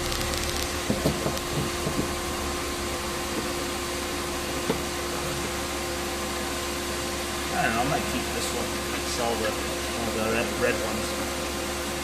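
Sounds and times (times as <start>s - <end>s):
car heater blower rushing air: 0.0s - 12.0s
engine hum: 0.0s - 12.0s.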